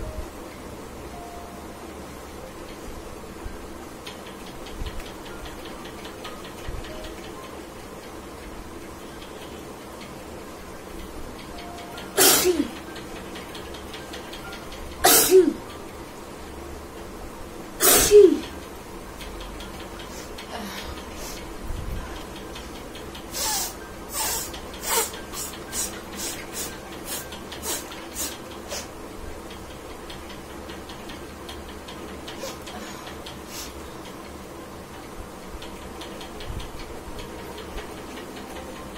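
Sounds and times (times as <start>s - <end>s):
faint ticking clicks: 2.1s - 38.9s.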